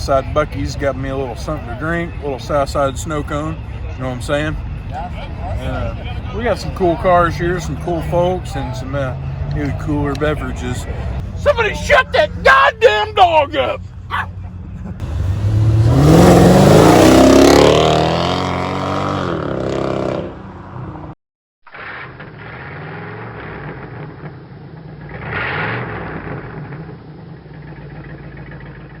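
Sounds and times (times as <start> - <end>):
car engine revving: 2.8 - 21.1, 22.4 - 28.7.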